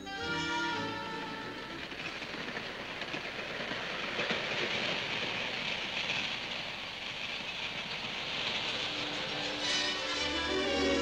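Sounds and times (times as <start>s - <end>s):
passenger train rushing past: 0.0s - 11.0s
wheels clattering over rail joints: 0.1s - 11.0s.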